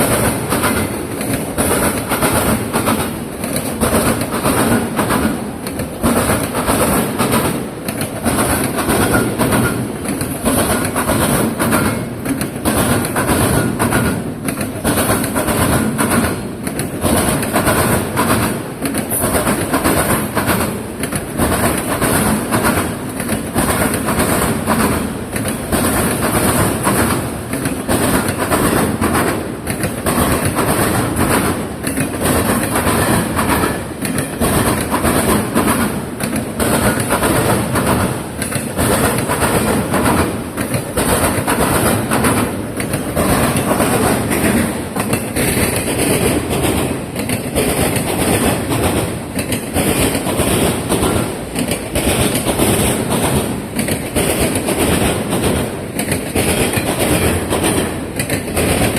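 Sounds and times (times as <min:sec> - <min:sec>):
rumble of passing train cars: 0:00.0 - 0:58.9
train wheels clacking over crossings: 0:00.0 - 0:58.9.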